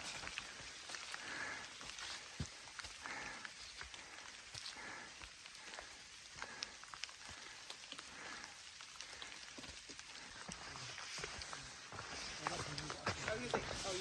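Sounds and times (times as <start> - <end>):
faint rain hissing: 0.0 - 14.0
raindrops pattering: 0.0 - 14.0.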